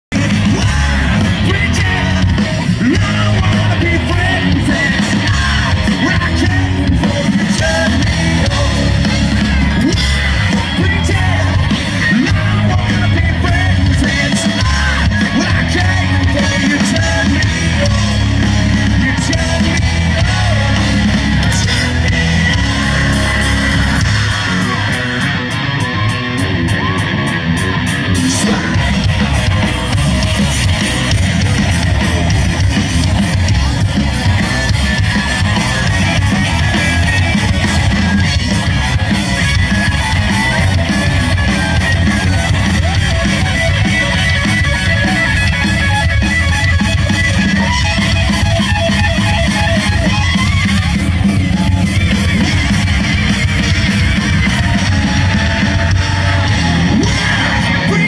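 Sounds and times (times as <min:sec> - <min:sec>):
electric guitars: 0:00.0 - 0:58.0
singer singing and yelling: 0:00.0 - 0:58.0.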